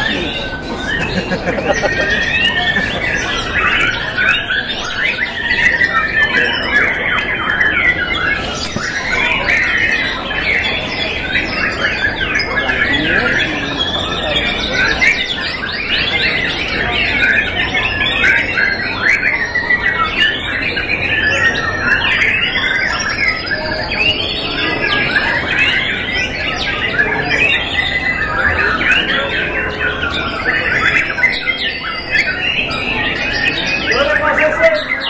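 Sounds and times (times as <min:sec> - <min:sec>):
birds whistling and chattering: 0:00.0 - 0:35.0.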